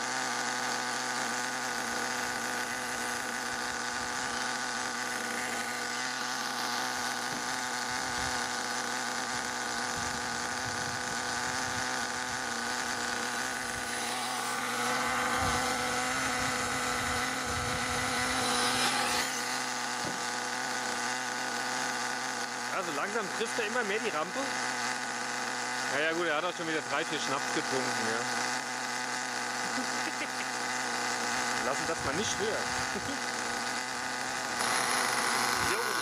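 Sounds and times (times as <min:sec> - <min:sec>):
nitro model engine droning: 0:00.0 - 0:36.0.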